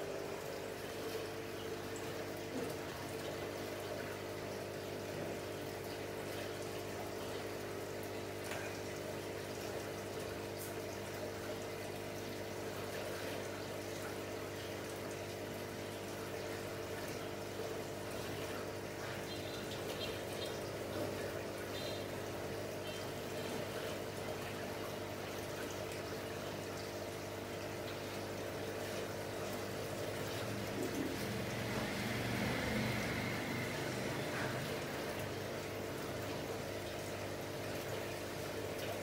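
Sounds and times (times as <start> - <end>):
aquarium filter pump hum: 0.0 - 39.0
moving water: 0.0 - 39.0.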